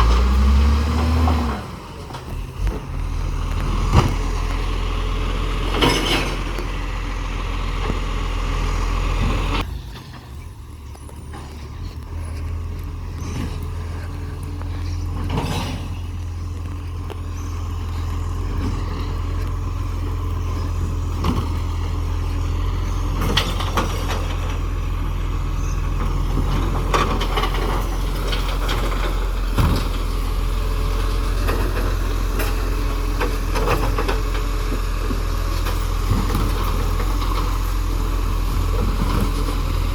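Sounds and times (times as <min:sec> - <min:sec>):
truck engine humming: 0:00.0 - 0:39.9.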